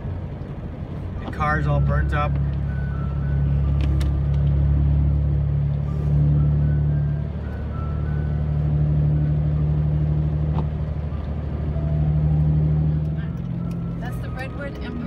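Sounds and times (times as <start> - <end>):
engine and road noise on wet road: 0.0 - 15.0.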